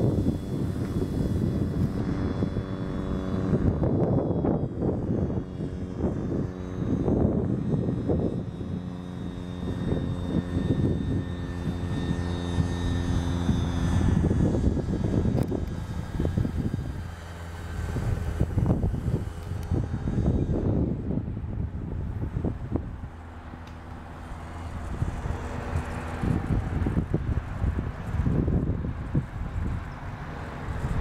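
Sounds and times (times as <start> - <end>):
model plane engine and propeller: 0.0 - 31.0.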